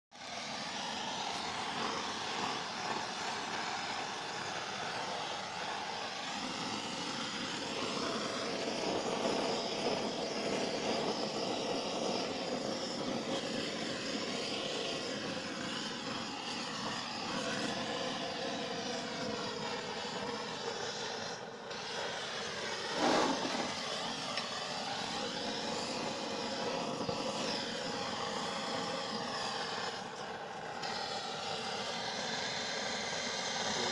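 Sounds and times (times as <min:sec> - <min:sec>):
blowtorch hissing: 0:00.2 - 0:33.9.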